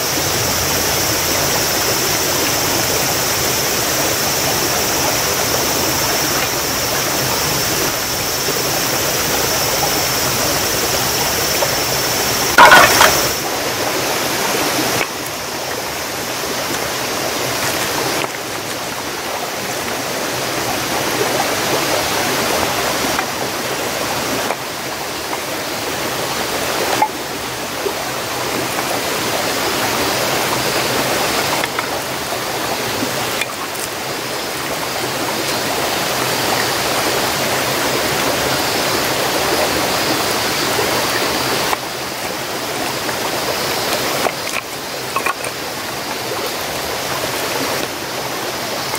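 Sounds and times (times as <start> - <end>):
stream flowing over rocks: 0.0 - 48.9.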